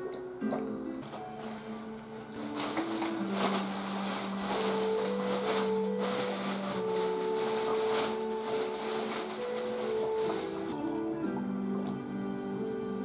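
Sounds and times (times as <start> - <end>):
slow background music: 0.0 - 13.0.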